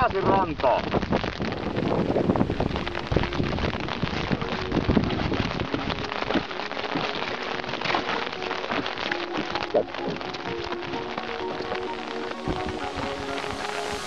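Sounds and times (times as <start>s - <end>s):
rain on lake and boat: 0.0s - 14.0s.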